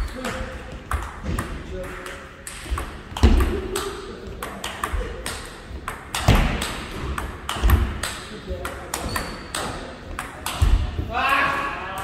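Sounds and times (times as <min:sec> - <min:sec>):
table tennis ball rally: 0:00.0 - 0:12.0.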